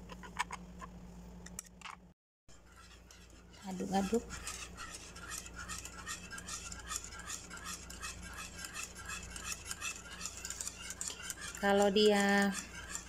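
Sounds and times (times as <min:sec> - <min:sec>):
metal whisk scraping a saucepan: 0:02.5 - 0:13.0.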